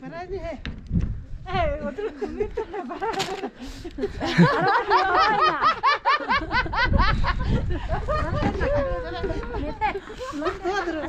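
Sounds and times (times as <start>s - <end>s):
women laughing: 1.8s - 11.0s.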